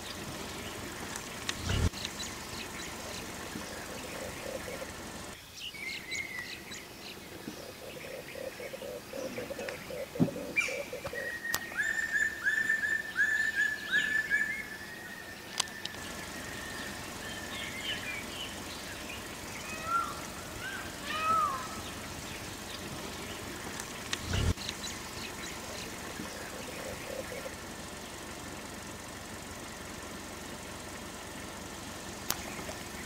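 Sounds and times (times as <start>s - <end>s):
birds whistling and chirping: 0.0s - 28.8s.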